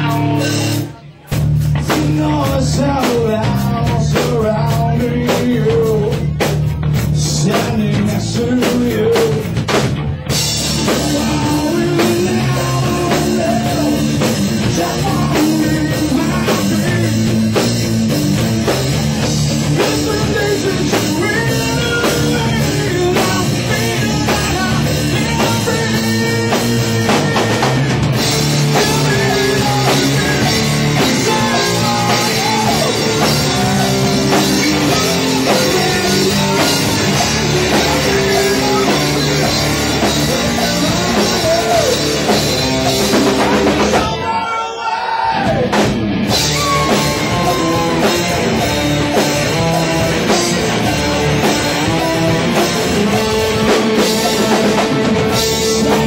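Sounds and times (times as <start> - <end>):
live rock band playing: 0.0 - 44.5, 45.4 - 56.0.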